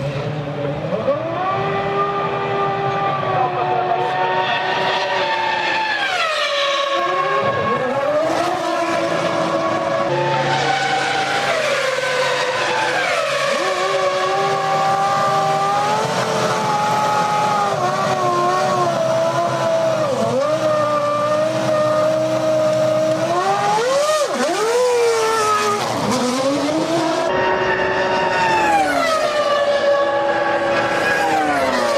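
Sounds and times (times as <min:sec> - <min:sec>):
racing car engine at high revs: 0:00.0 - 0:31.9.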